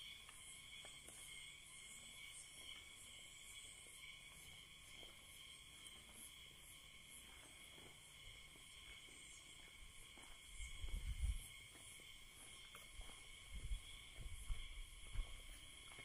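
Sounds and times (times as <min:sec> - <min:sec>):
shrill insect chorus: 0:00.0 - 0:16.0.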